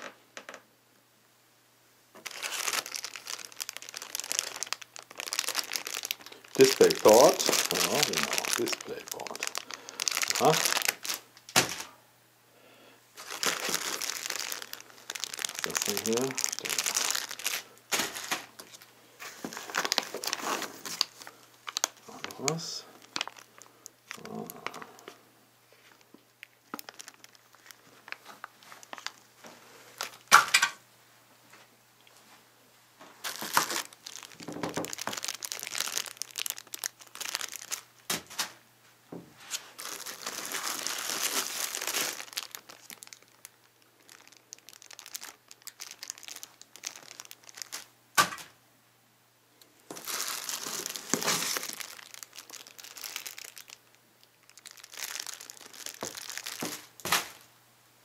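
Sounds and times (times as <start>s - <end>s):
plastic bags crinkling: 2.2s - 12.0s, 13.2s - 30.8s, 33.1s - 38.6s, 39.4s - 48.5s, 49.7s - 57.5s.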